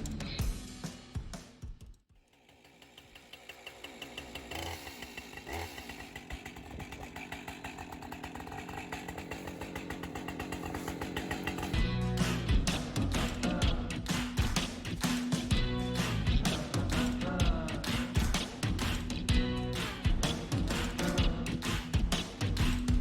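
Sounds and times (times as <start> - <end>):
small gasoline engine running: 2.2 - 23.0.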